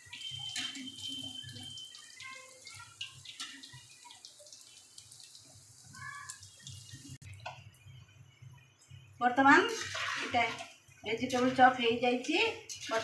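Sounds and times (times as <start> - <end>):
oil popping and crackling: 0.0 - 11.8
food deep-frying in oil: 0.0 - 13.0.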